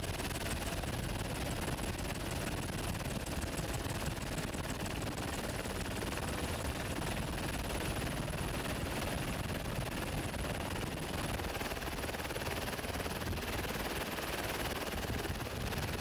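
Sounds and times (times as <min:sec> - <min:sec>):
helicopter running: 0:00.0 - 0:16.0.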